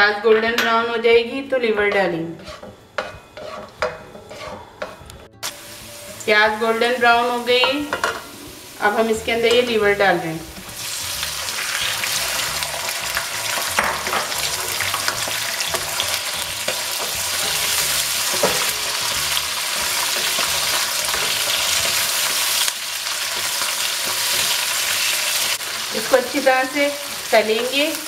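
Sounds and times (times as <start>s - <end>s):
chicken livers sizzling in oil: 5.4s - 28.0s.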